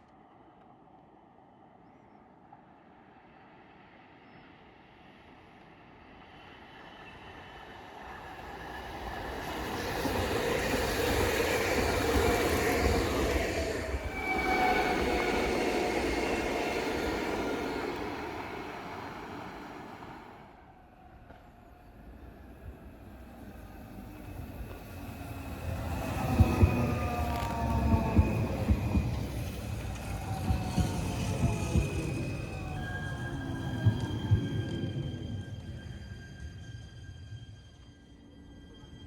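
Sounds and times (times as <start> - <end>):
electric train passing: 4.8 - 39.0.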